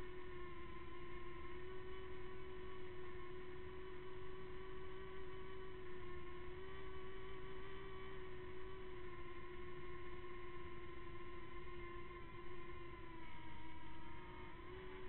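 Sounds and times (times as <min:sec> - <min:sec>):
quadcopter propellers whining: 0:00.1 - 0:15.0.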